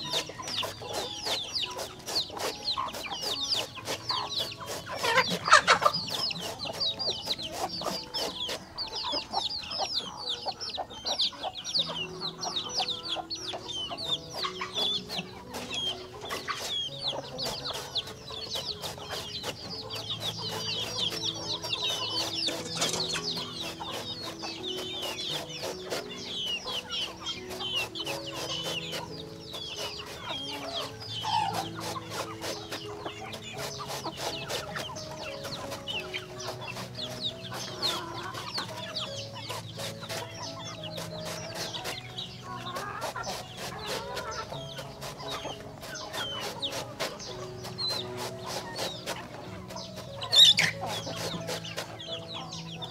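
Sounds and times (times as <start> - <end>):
chickens peeping and clucking: 0.0 - 52.9
soft background music: 0.0 - 52.9.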